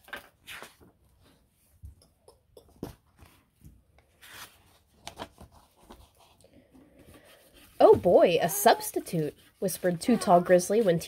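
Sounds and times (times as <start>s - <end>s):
book pages rustling: 0.0s - 1.5s, 2.8s - 11.0s.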